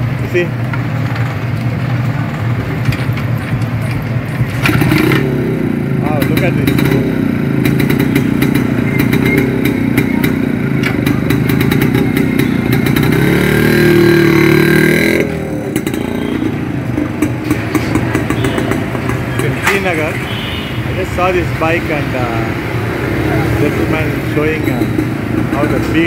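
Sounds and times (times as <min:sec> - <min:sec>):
traffic: 0:00.0 - 0:26.0
two-stroke motorcycle engine revving: 0:04.3 - 0:26.0.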